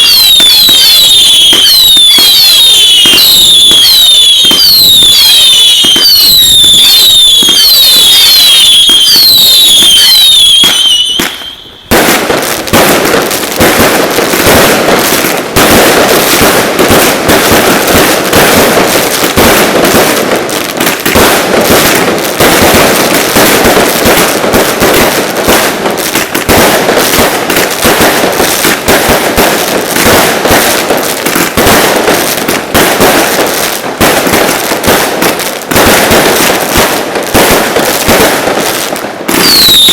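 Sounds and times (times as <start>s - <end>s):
firecracker bangs crackling: 0.0s - 39.9s
firework whistles: 0.0s - 39.9s.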